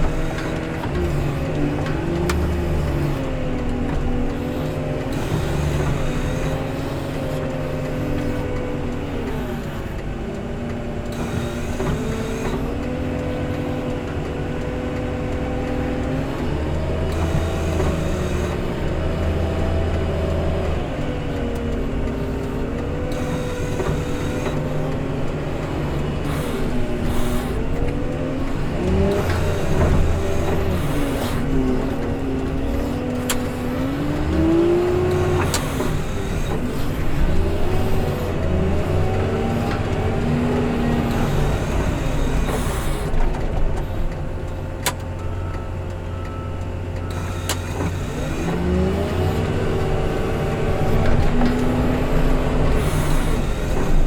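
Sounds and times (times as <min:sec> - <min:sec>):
heavy machine engine revving: 0:00.0 - 0:54.0.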